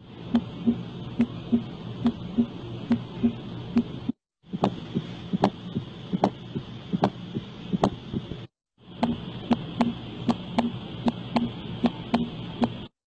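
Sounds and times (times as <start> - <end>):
heartbeat sounds: 0.3 - 12.8.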